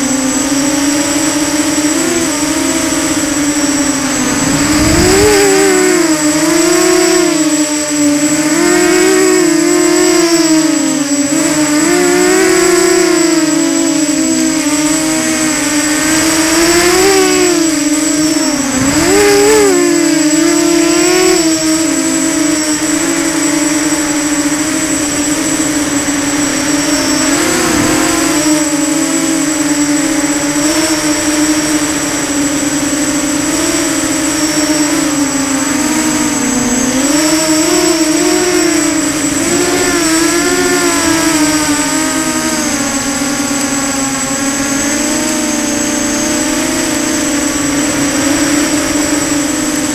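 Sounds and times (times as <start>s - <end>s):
high steady whine: 0.0s - 49.9s
model aircraft propellers buzzing: 0.0s - 49.9s.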